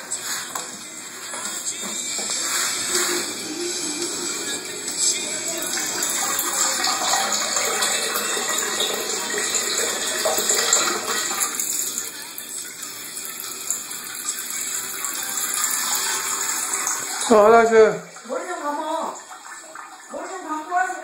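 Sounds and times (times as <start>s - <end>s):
water running from tap: 0.2s - 21.0s.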